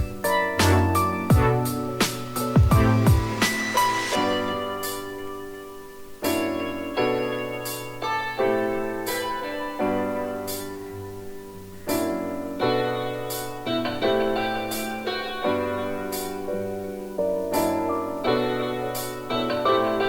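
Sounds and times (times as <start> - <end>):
piano chords: 0.0 - 20.0.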